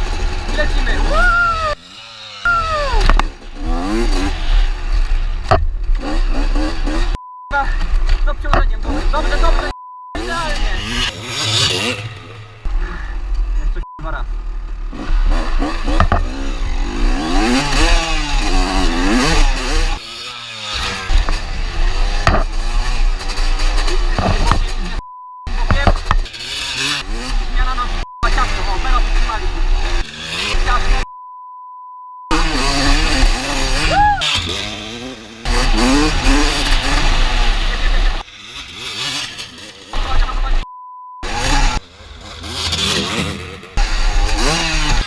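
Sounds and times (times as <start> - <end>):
motocross engine revving: 0.0 - 31.1, 32.3 - 45.0.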